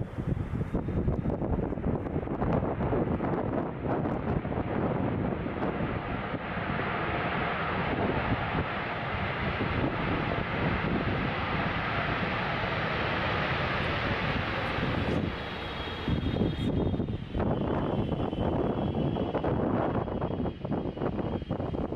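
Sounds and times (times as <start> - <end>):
faint engine whine: 0.0 - 21.9
jet engine rumble: 0.0 - 21.9.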